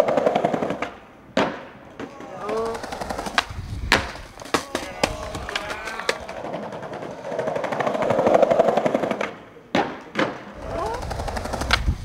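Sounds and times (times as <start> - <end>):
skateboard landing impacts: 0.0 - 12.0
skateboard wheels on cobblestones: 0.0 - 12.0.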